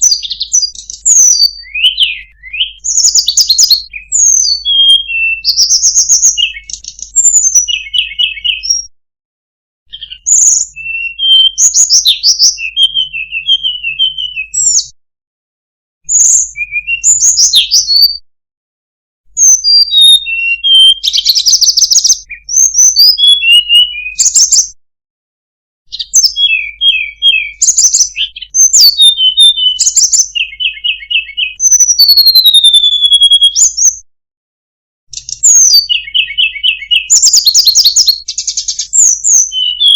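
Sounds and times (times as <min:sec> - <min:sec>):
songbird whistling and trilling: 0:00.0 - 0:08.9, 0:09.9 - 0:15.0, 0:16.0 - 0:18.2, 0:19.4 - 0:24.8, 0:25.9 - 0:34.0, 0:35.1 - 0:39.9.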